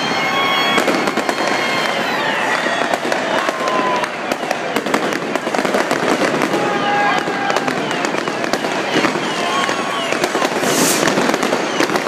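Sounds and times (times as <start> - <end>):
firecrackers crackling: 0.0 - 12.0
firework bangs: 0.0 - 12.0
whistling fireworks: 0.0 - 12.0.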